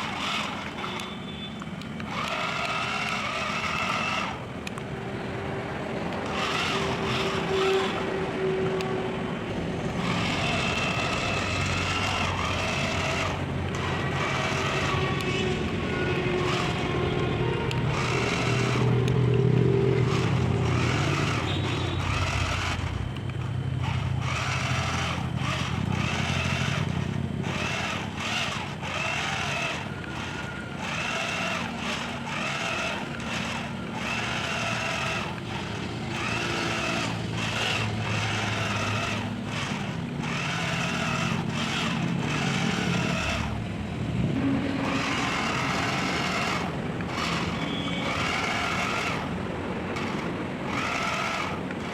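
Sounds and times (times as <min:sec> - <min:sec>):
toy tractor motor running: 0:00.0 - 0:51.9.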